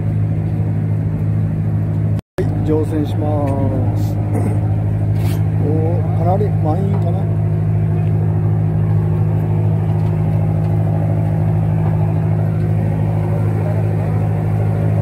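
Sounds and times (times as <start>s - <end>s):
diesel engines idling: 0.0s - 15.0s.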